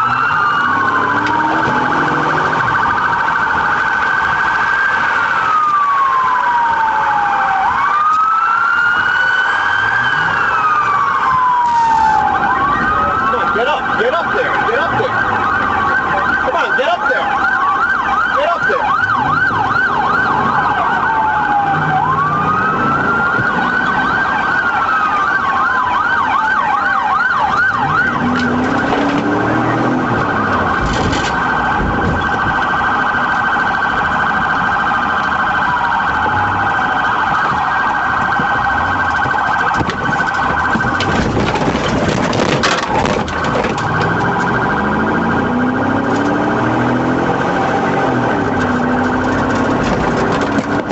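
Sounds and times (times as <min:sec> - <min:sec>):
police siren yelp and wail: 0:00.0 - 0:50.9
road noise: 0:00.0 - 0:50.9.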